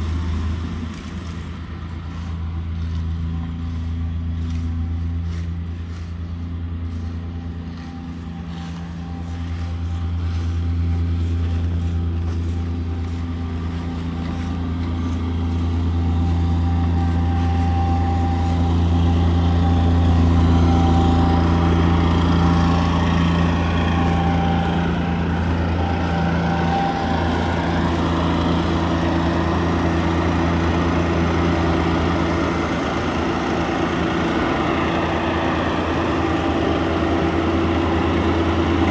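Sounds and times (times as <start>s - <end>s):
mower collecting leaves: 0.0s - 38.9s
ride-on mower diesel engine: 0.0s - 38.9s.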